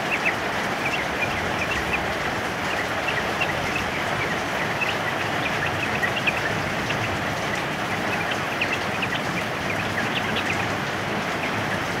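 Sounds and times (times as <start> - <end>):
bulbuls chirping: 0.0 - 12.0.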